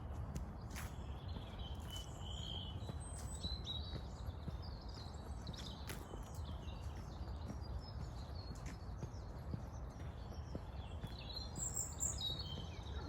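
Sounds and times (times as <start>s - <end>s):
soft footsteps on a path: 0.0s - 13.0s
small birds chirping: 0.1s - 13.0s.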